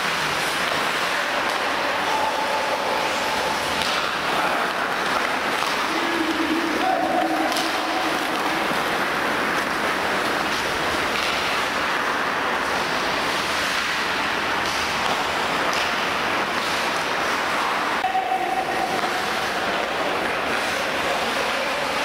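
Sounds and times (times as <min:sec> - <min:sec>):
skate blades scraping ice: 0:00.0 - 0:17.8
faint clacks of sticks and puck: 0:00.0 - 0:22.0.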